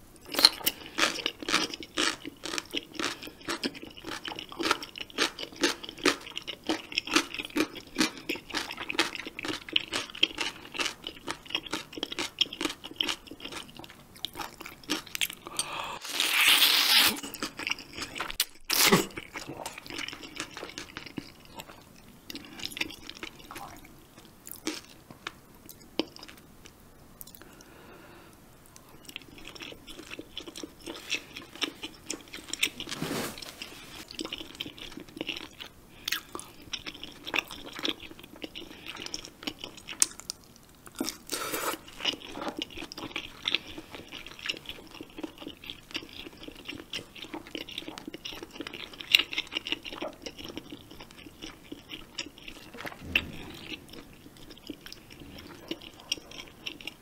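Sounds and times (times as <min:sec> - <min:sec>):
person chewing noodle soup: 0:00.2 - 0:57.0.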